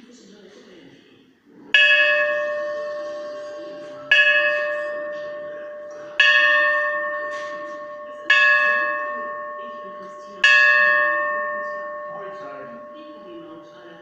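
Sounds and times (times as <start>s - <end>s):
large bell ringing: 1.7s - 14.0s.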